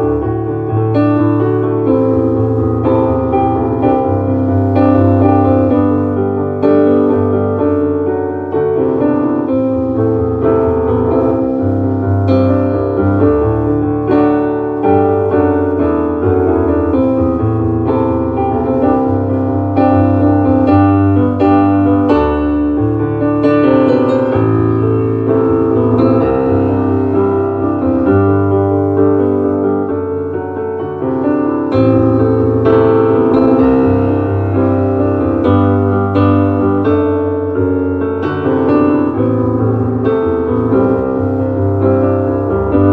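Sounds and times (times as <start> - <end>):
slow piano music: 0.0 - 42.9.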